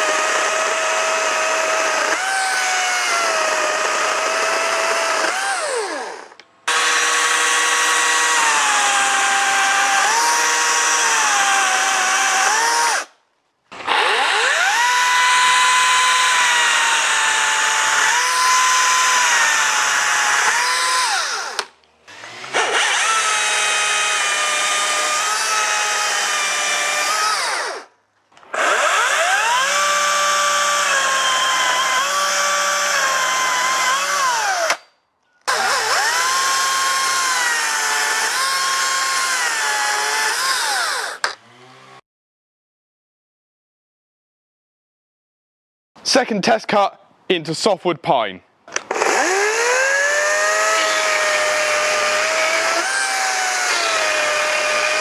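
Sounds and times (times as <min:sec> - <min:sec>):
electric chainsaw cutting wood: 0:00.0 - 0:34.9, 0:35.5 - 0:42.0, 0:48.7 - 0:55.0.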